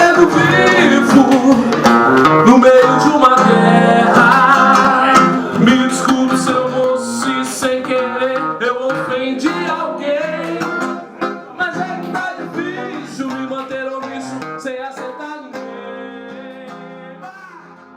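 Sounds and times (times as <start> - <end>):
acoustic guitar music: 0.0 - 17.9.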